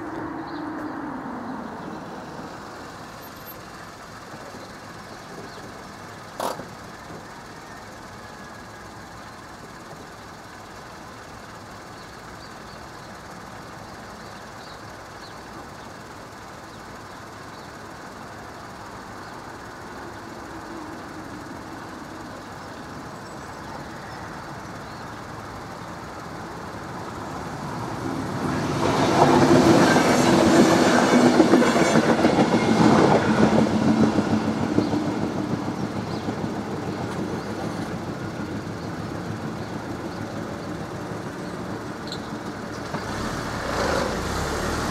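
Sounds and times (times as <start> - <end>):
train rumbling past: 0.0 - 44.9
train wheels clattering on rails: 2.5 - 13.2, 14.6 - 44.9.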